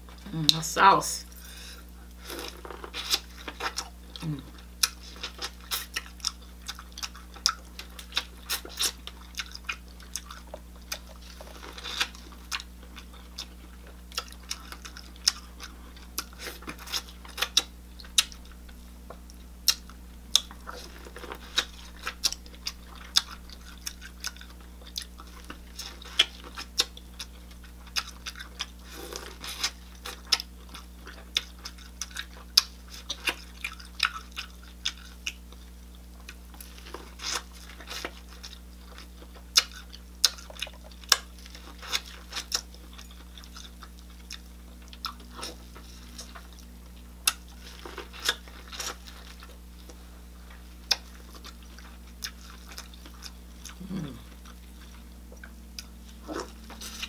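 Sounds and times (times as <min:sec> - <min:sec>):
chewing corn on the cob: 0:02.0 - 0:57.0.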